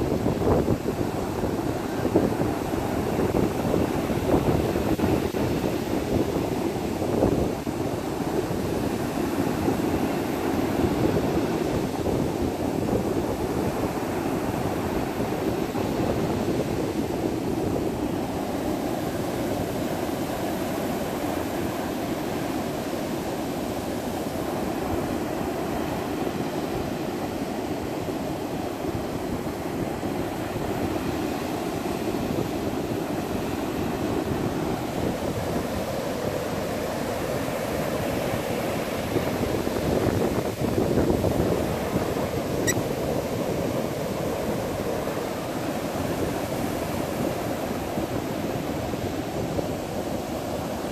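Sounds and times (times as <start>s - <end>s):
ocean surf washing onto beach: 0.0s - 50.9s.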